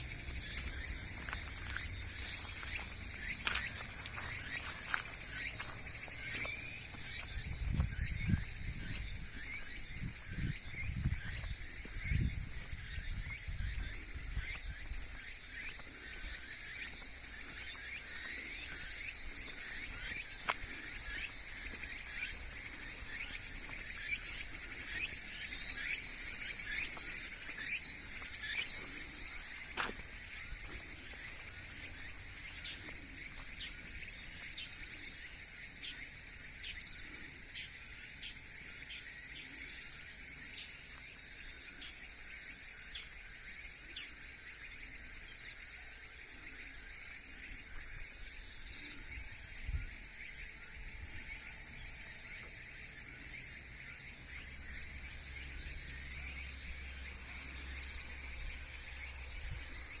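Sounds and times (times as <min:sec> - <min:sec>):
high insect buzz: 0:00.0 - 1:00.0.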